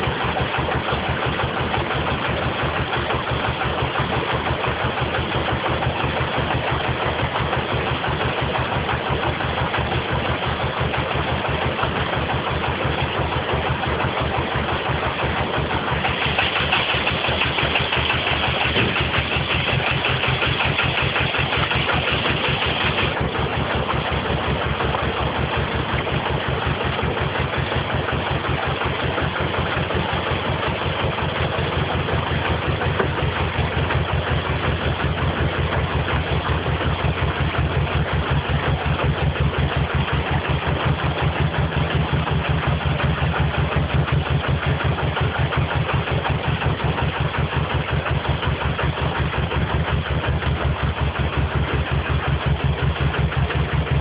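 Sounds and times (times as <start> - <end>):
boat engine running slowly: 0.0 - 54.0.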